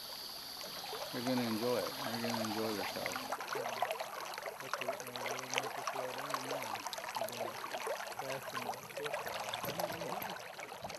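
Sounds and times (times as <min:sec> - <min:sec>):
river water splashing: 0:00.0 - 0:10.9.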